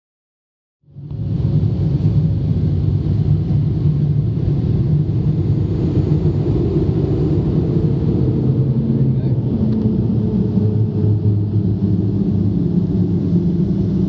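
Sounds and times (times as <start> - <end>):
airliner cabin rumble: 0.8 - 14.0.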